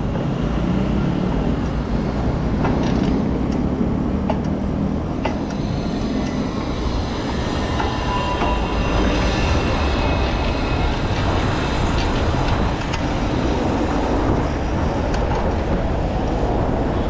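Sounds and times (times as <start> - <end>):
bicycle tyre and road noise: 0.0 - 17.0
wind rumble on microphone: 0.0 - 17.0.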